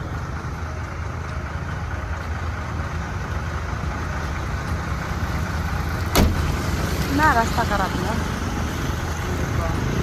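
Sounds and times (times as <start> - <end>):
vehicle engines idling: 0.0 - 10.0.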